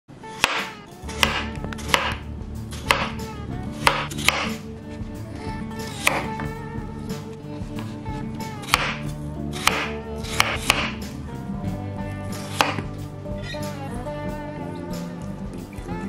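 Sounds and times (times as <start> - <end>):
soft background music: 0.1 - 16.0.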